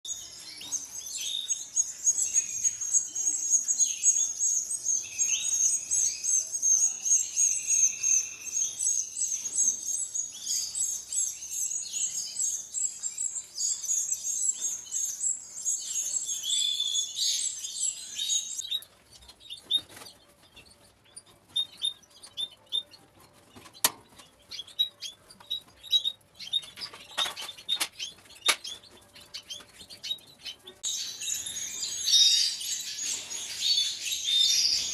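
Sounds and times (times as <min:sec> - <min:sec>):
nestlings chirping: 0:00.1 - 0:34.9.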